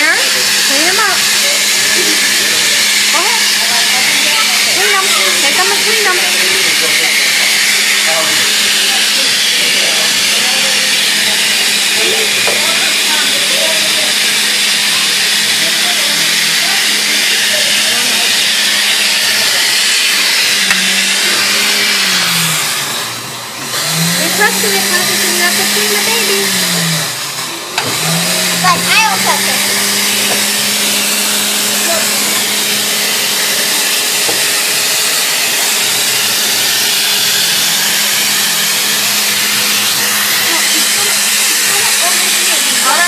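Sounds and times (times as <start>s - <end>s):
air blower rushing: 0.0s - 43.0s.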